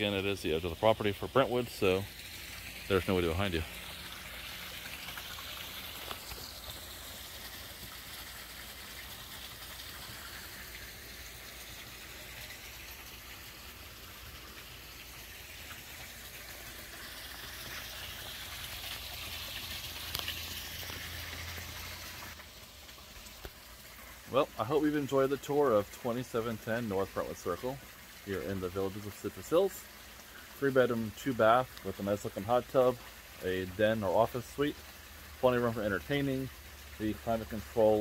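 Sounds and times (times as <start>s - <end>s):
hot tub jets running: 0.0s - 38.0s
waterfall splashing into tub: 0.0s - 38.0s.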